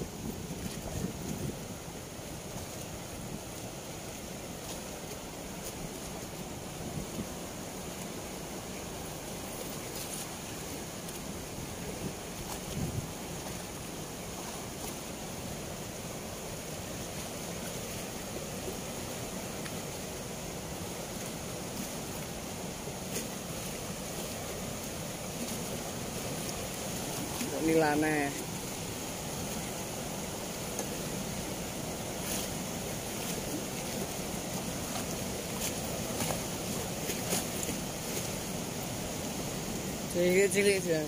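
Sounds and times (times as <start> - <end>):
water rushing through sluice gates: 0.0 - 41.0.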